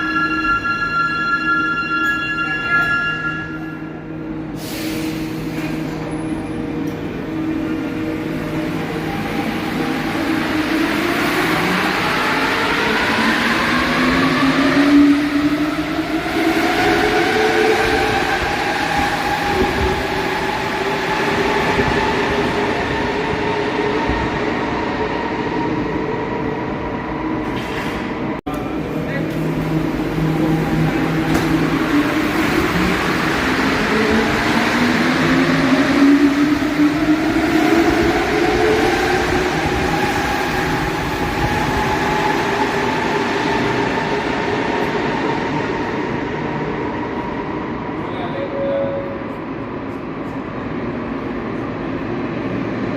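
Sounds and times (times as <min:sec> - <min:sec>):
metro train rolling past: 0:00.0 - 0:52.9.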